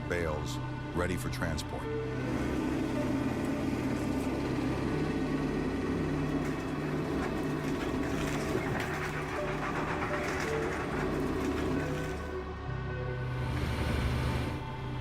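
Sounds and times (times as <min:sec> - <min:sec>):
baling machine droning: 0:01.8 - 0:15.0.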